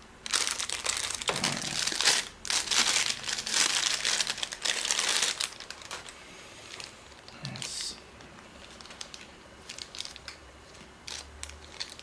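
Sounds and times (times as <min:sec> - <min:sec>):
plastic sleeve crinkling: 0:00.2 - 0:12.0.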